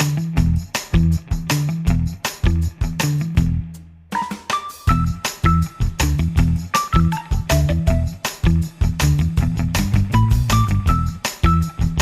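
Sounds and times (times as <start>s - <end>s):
music with steady beat and bass: 0.0s - 12.0s.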